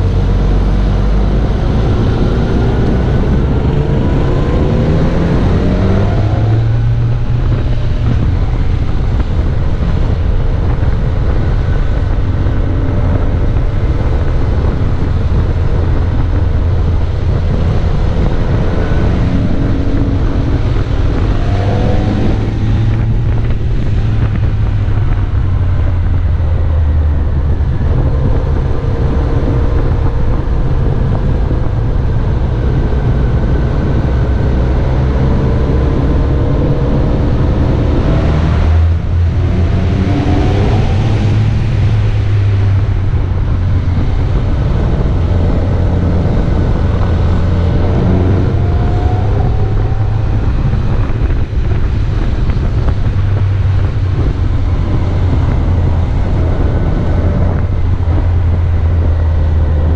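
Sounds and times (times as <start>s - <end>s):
engine revving: 0.0s - 59.9s
wind noise on microphone: 0.0s - 59.9s.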